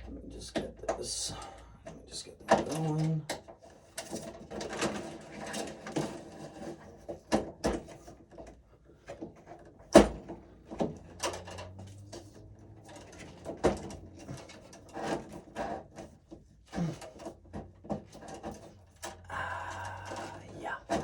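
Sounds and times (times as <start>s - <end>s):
clicks and scrapes of hand work: 2.5s - 21.0s.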